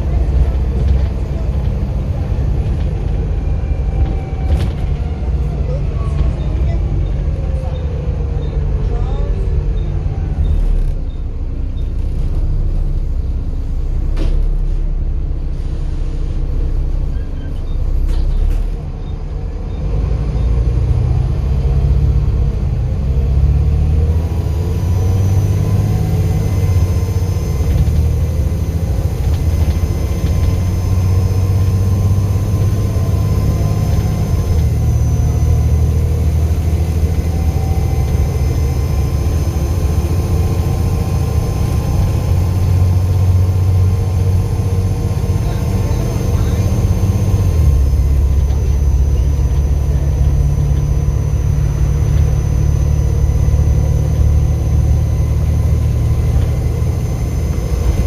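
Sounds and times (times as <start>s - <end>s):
diesel bus engine rumbling: 0.0s - 58.0s.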